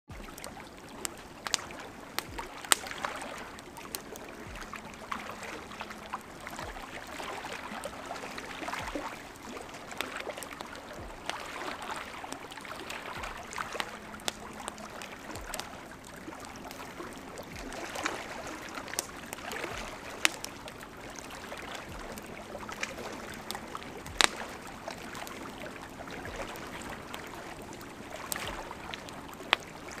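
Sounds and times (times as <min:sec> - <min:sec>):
bonfire crackling and popping: 0:00.1 - 0:30.0
small waves lapping on rocks: 0:00.1 - 0:30.0.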